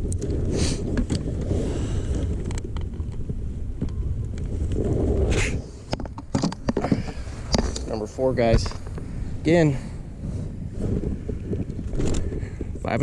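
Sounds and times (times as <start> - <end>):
wind buffeting microphone: 0.0 - 13.0
wind swishes: 0.0 - 13.0.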